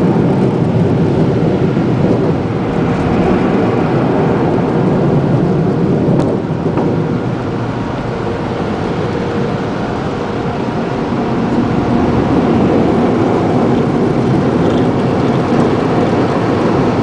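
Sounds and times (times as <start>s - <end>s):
car wash sprayers rushing: 0.0s - 17.0s.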